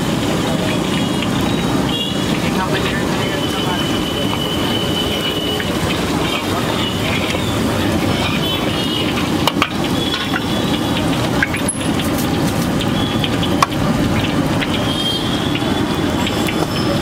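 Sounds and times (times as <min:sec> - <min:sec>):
gas burner rushing: 0:00.0 - 0:17.0.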